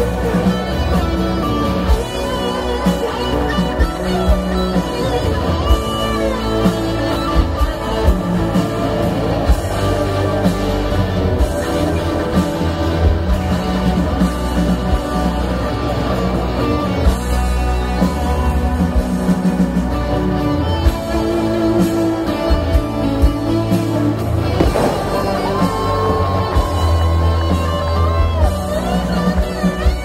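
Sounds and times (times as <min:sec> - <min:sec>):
electric guitar lead: 0:00.0 - 0:30.0
live rock band: 0:00.0 - 0:30.0.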